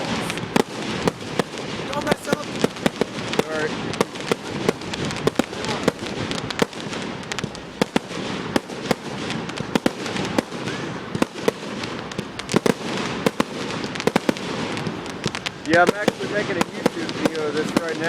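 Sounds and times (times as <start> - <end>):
fireworks bangs and pops: 0.0 - 18.0
fireworks crackling: 0.0 - 18.0.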